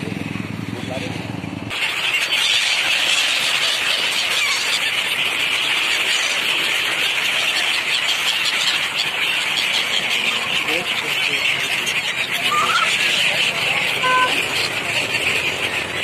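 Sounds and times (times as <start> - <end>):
flock of gulls squealing: 0.7 - 16.0.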